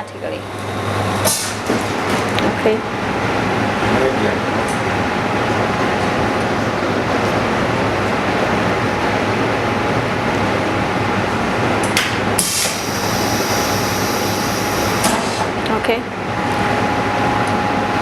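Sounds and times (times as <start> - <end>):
laminator mechanical noise: 0.0 - 18.0.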